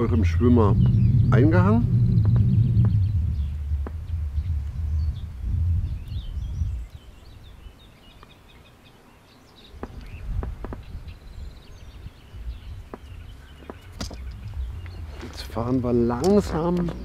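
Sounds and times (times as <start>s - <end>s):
low rumbling noise: 0.0s - 7.9s, 9.8s - 17.0s
small birds chirping: 0.0s - 17.0s.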